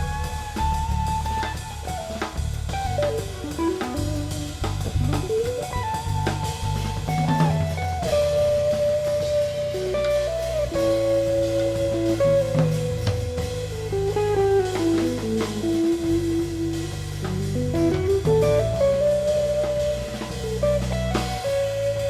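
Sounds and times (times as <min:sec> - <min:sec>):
drum kit: 0:00.0 - 0:22.0
guitar slow melody: 0:00.0 - 0:22.0.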